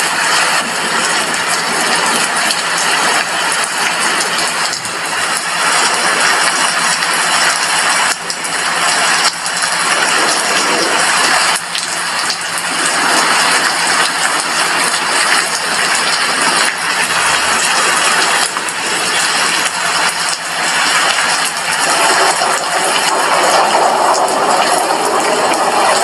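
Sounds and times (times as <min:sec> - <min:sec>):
heavy rain on glass window: 0:00.0 - 0:26.0.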